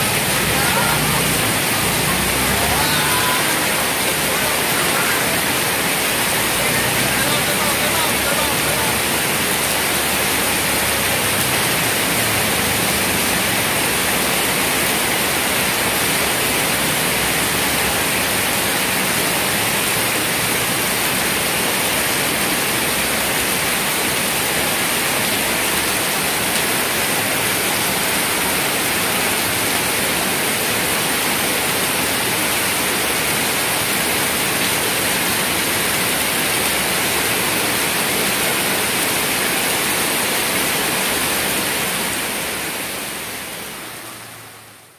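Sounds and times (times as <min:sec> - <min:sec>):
heavy rain on wet pavement: 0:00.0 - 0:44.9.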